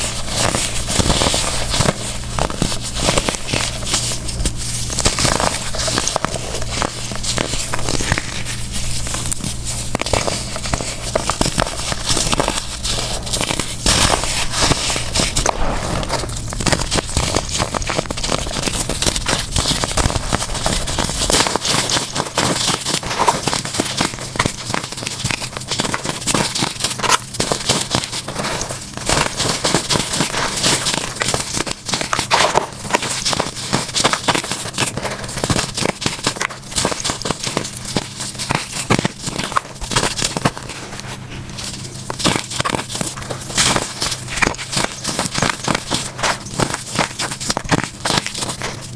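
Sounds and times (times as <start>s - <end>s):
baking soda blocks crunching: 0.0s - 48.9s.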